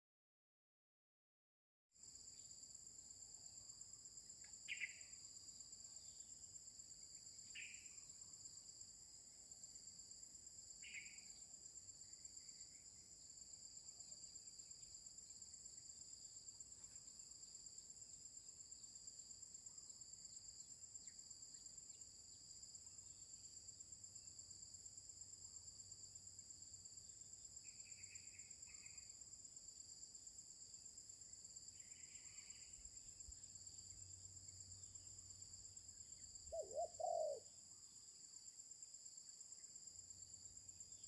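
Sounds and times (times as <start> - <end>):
insect chorus drone: 2.0 - 41.0.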